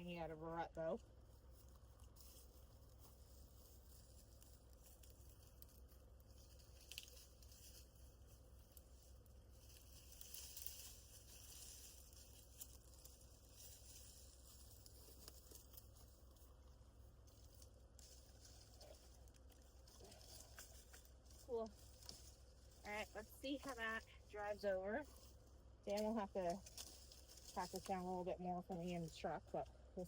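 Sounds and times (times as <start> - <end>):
rustling and crunching of sticks: 0.8 - 30.0.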